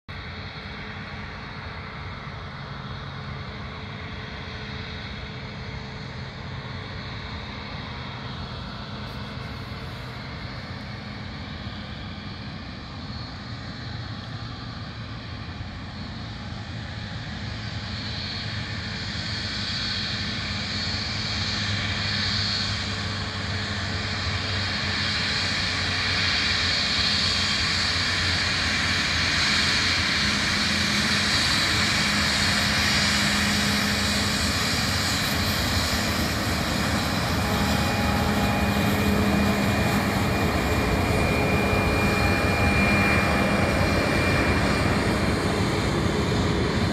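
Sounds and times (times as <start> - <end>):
jet engines taxiing: 0.1 - 46.9.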